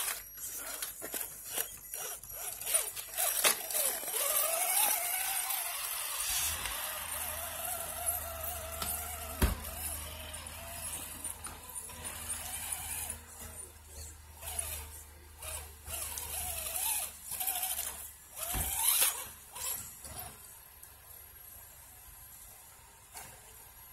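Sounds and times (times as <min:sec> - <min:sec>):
electric motor whining: 0:00.0 - 0:20.4.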